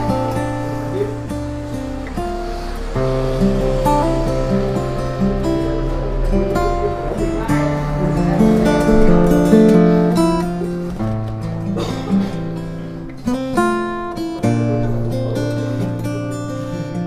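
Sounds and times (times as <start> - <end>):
fingerstyle acoustic guitar: 0.0 - 17.0.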